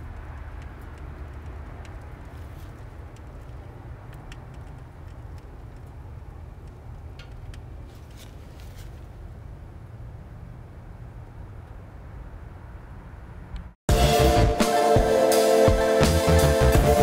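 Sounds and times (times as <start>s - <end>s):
low outdoor rumble and hiss: 0.0s - 13.8s.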